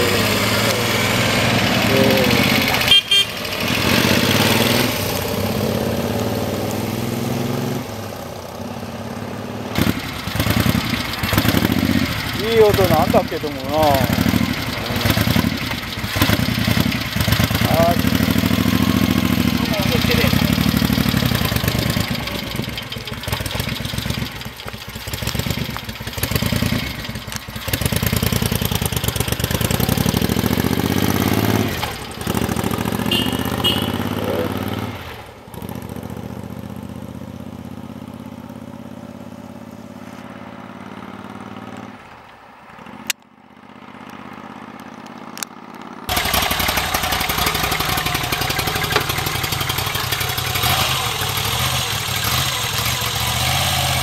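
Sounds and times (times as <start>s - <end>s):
motorcycle idling: 0.0s - 6.7s, 7.8s - 41.6s, 43.3s - 54.0s
motorcycle revving and accelerating: 0.0s - 42.1s, 42.8s - 54.0s.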